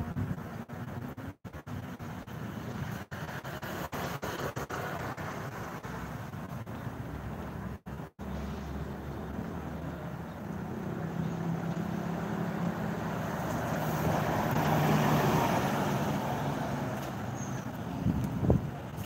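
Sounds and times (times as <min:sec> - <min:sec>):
road vehicle passing: 0:00.0 - 0:19.0.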